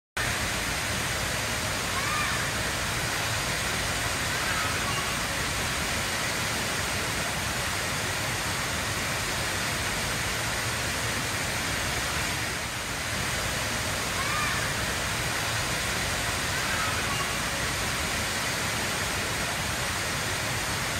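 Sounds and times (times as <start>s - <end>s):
indoor waterfall rushing: 0.2s - 20.9s.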